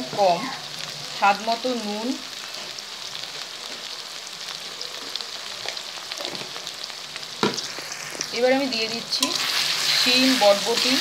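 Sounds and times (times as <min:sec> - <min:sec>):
food sizzling in oil: 0:00.0 - 0:11.0
oil popping and crackling: 0:00.1 - 0:11.0.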